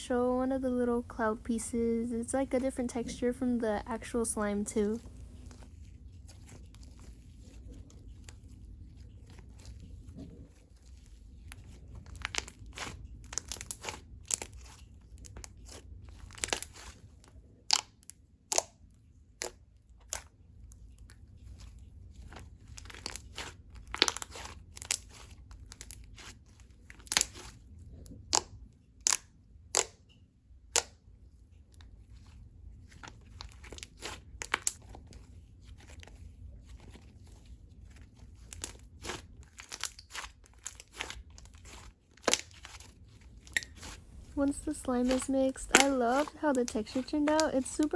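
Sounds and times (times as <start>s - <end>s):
slime squishing with sticky pops: 2.1s - 17.0s, 17.6s - 18.7s, 21.5s - 31.0s, 32.2s - 47.9s.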